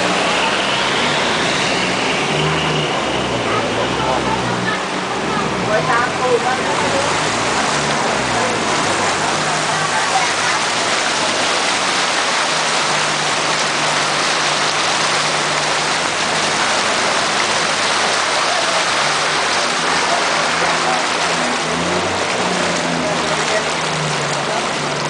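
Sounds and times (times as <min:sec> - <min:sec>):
floodwater rushing and splashing: 0:00.0 - 0:25.0
low engine hum: 0:00.0 - 0:25.0.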